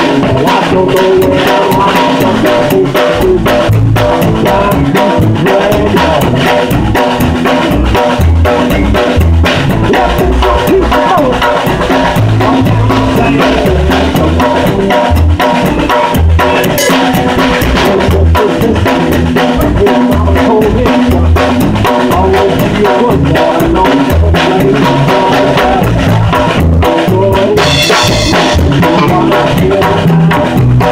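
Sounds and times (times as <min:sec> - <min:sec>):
bass guitar: 0:00.0 - 0:30.9
drums and cymbals: 0:00.0 - 0:30.9
electric guitar: 0:00.0 - 0:30.9
rock band playing: 0:00.0 - 0:30.9.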